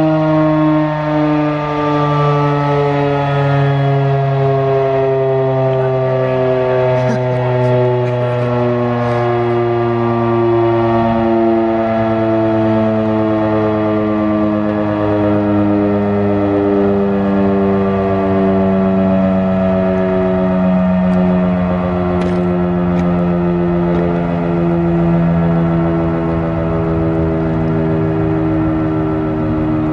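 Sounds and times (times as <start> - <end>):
outdoor warning siren: 0.0 - 29.9.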